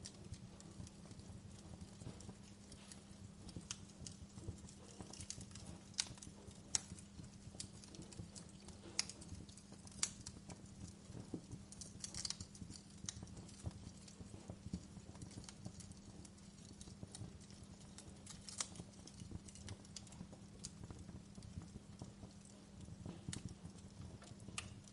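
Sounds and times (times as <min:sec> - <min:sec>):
low burning hum: 0:00.0 - 0:24.9
wood fire crackling: 0:00.0 - 0:24.9.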